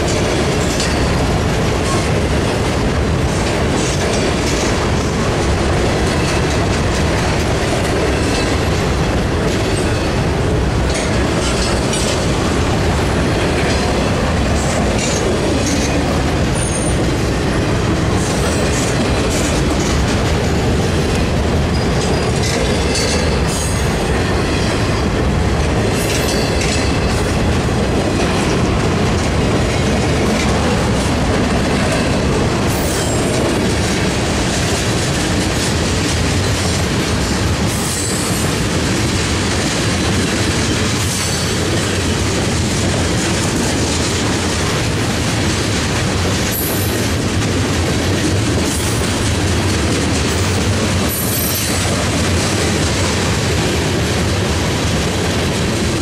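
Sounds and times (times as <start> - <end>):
freight train rumble and clatter: 0.0 - 56.0.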